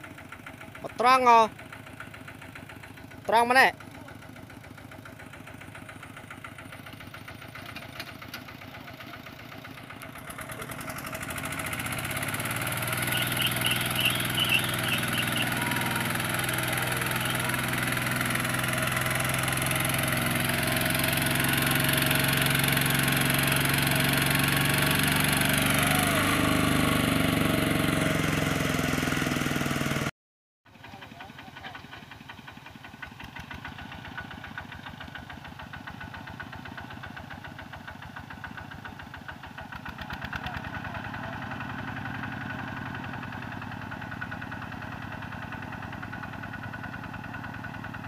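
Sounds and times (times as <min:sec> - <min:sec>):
diesel tractor engine running: 0:00.0 - 0:30.1, 0:30.7 - 0:48.0.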